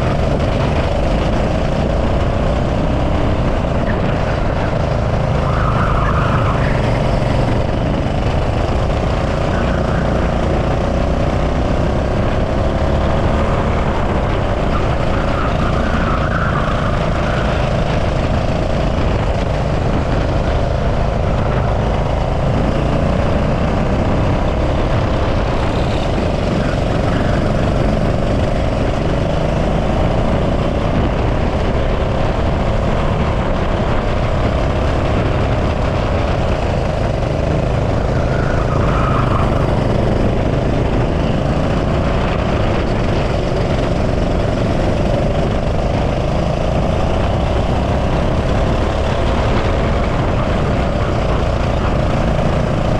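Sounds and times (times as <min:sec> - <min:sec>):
go-kart engine running: 0:00.0 - 0:52.9.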